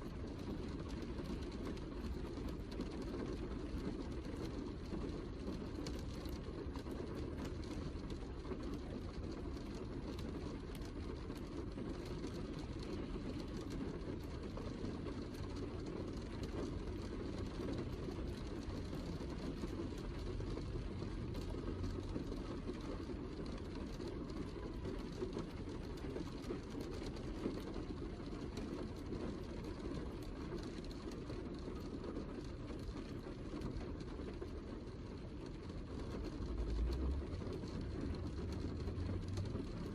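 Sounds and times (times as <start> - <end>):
heavy rain patter: 0.0 - 39.9.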